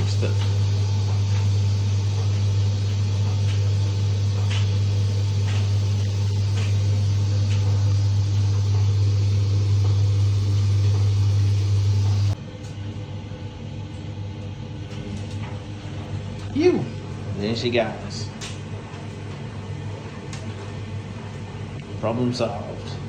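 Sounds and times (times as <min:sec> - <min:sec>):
washing machine mains hum: 0:00.0 - 0:23.0.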